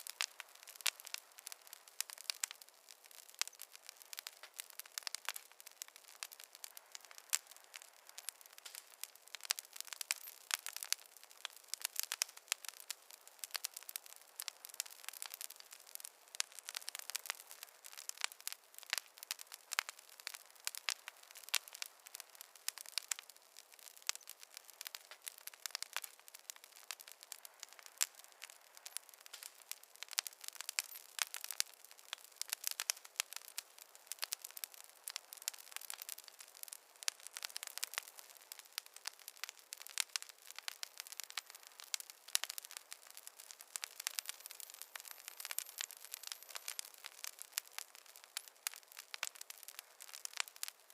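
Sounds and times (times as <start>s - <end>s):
fireplace fire crackling and popping: 0.0s - 50.9s
soft fire hiss: 0.0s - 50.9s.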